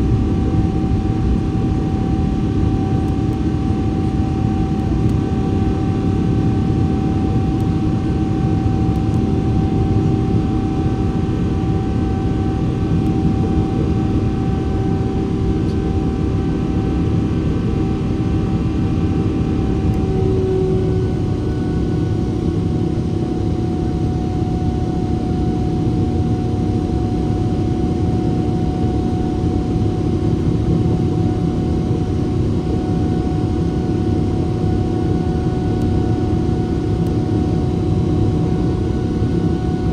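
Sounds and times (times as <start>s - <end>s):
jet engine roar in cabin: 0.0s - 39.9s
jet engine whine: 0.0s - 39.9s.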